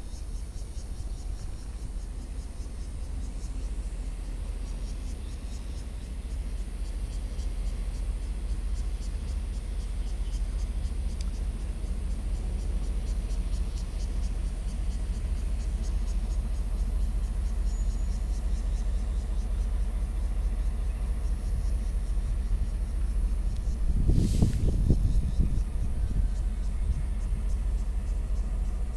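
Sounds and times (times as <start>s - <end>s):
insects chirping: 0.0s - 28.9s
locomotive engine rumble: 0.0s - 28.9s.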